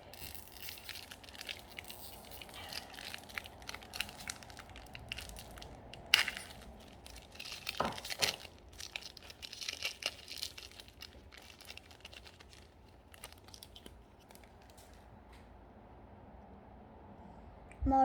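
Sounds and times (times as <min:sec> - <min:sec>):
foil wrapper tearing and crinkling: 0:00.0 - 0:14.9.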